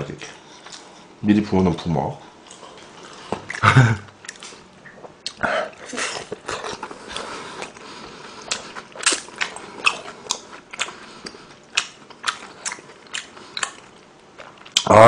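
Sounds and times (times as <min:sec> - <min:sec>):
chewing with crunches: 0:02.4 - 0:14.9.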